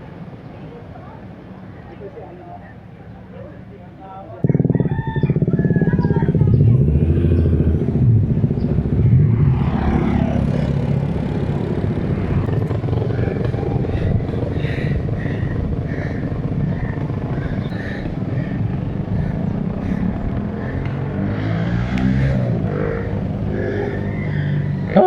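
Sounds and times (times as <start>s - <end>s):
motor vehicle engine passing: 3.8s - 25.0s.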